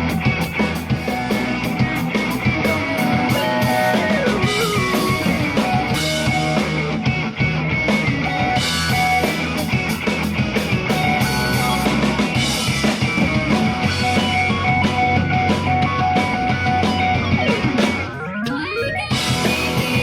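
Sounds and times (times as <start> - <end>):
pop-rock song over sound system: 0.0 - 20.0.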